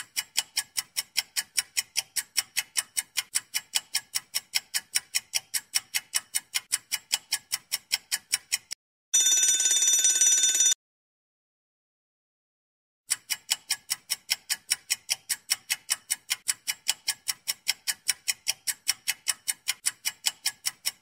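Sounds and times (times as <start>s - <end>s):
clock ticking fast: 0.0s - 10.7s, 13.1s - 21.0s.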